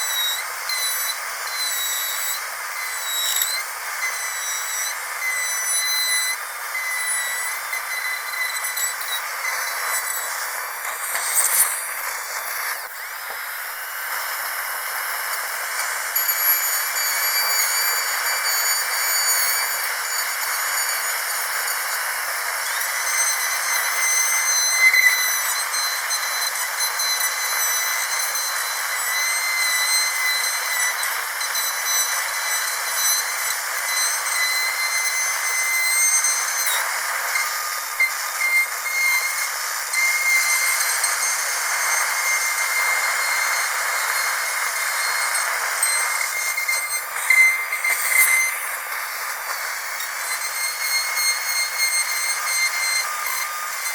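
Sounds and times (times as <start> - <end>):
dental drill whining: 0.0 - 53.9.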